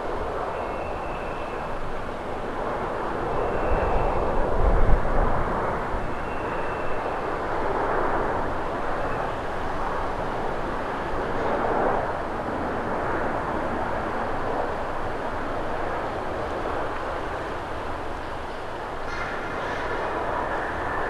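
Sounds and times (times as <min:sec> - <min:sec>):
jet airliner rushing overhead: 0:00.0 - 0:21.0.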